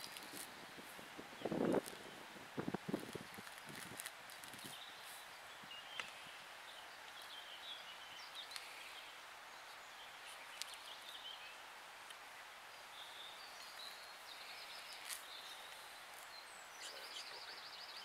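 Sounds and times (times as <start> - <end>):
faint birdsong: 0.0 - 18.0
steady hiss: 0.0 - 18.0.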